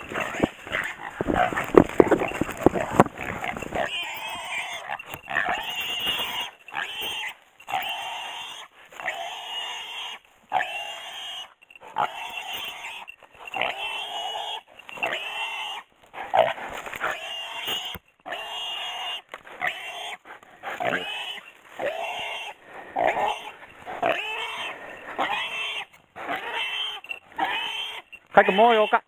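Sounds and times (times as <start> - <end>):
wild boar squealing: 0.0 - 29.0.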